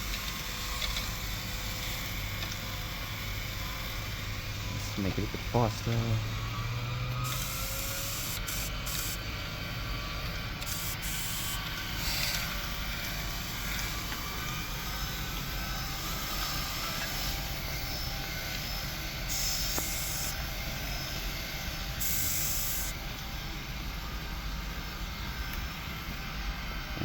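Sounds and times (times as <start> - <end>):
electric motors humming: 0.0 - 27.0.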